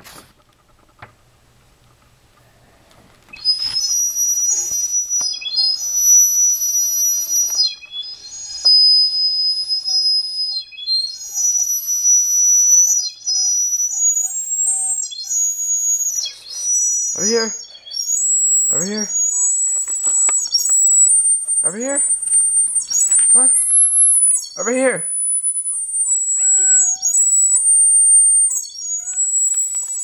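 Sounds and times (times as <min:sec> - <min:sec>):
high-pitched plastic whistle: 0:03.3 - 0:30.0.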